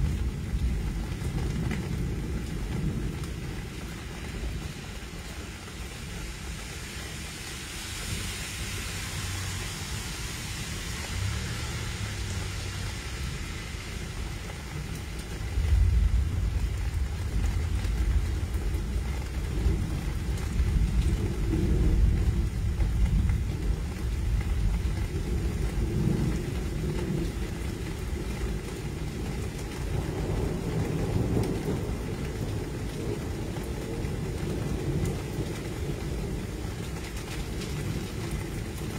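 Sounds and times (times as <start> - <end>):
low rumble of thunder: 0.0 - 38.9
steady rain: 0.0 - 38.9.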